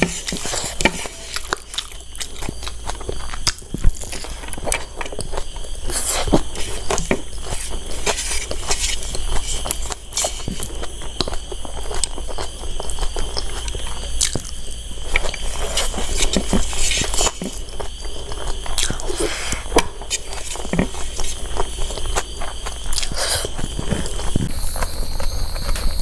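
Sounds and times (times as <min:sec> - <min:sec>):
chewing and wet mouth sounds: 0:00.0 - 0:25.9.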